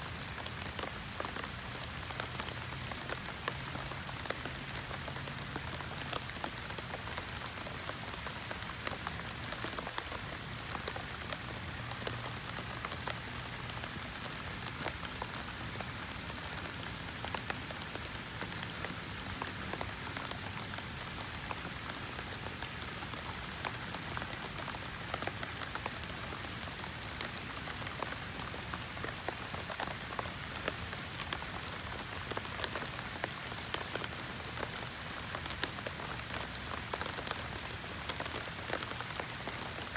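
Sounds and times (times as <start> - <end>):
steady rain: 0.0 - 39.9
raindrops ticking: 0.1 - 39.9.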